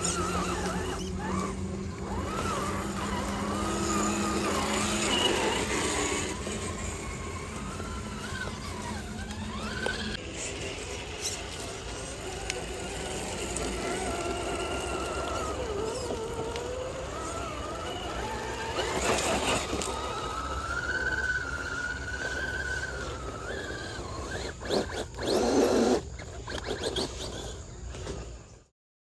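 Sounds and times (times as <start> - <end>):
electric motor and gear whine: 0.0 - 28.7
tyres scrabbling in dirt and leaves: 0.0 - 28.7.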